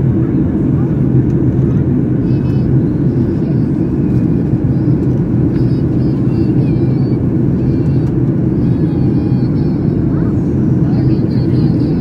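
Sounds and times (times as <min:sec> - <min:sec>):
airplane cabin roar: 0:00.0 - 0:12.0
faint passenger voices: 0:00.0 - 0:12.0.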